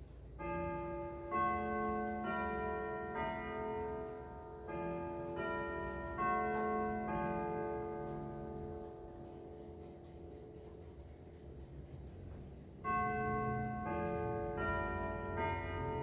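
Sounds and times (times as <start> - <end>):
grandfather clock chiming a melody: 0.0 - 12.0, 12.7 - 16.0.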